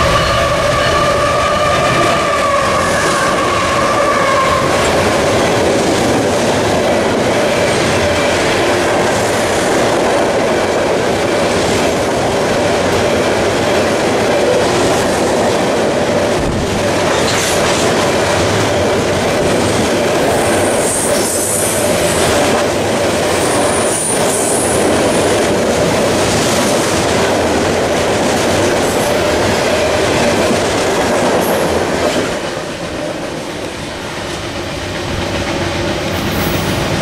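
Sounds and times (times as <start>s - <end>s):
freight train rumbling past: 0.0s - 37.0s
wheels clattering on rail: 3.2s - 37.0s.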